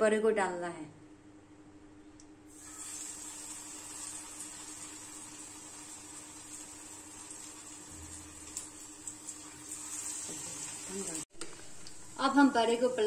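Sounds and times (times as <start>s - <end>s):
patty sizzling in hot oil: 2.5s - 13.0s.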